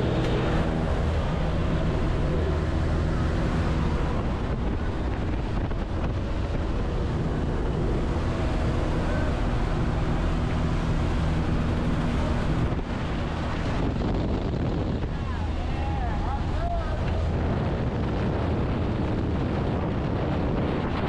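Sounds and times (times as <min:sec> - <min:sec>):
plane engine drone: 0:00.0 - 0:21.0
wind rushing across microphone: 0:00.0 - 0:21.0.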